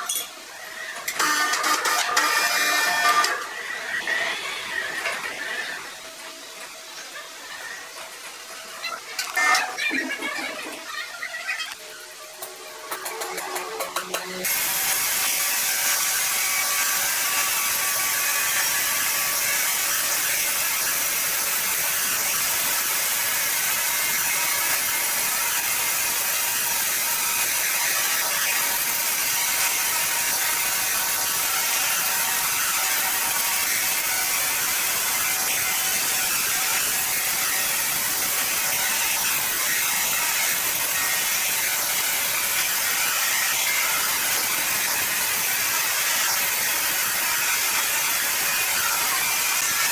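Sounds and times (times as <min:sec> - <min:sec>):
saw cutting timber: 0:00.6 - 0:06.9, 0:12.9 - 0:49.9.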